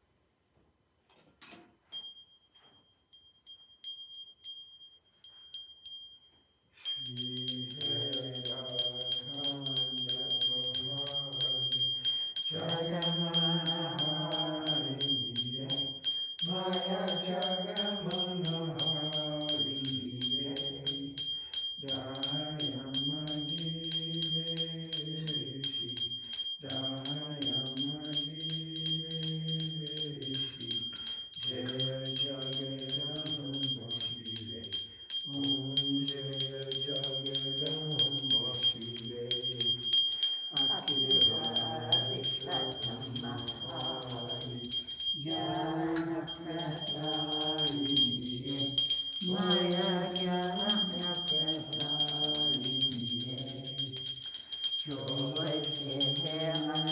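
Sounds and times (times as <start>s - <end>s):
small bell ringing rapidly: 1.9s - 56.9s
devotional chanting: 6.8s - 56.9s.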